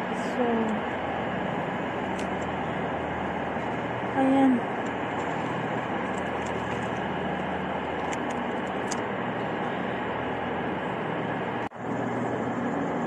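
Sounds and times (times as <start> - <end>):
station hall rumble and hum: 0.0 - 13.0.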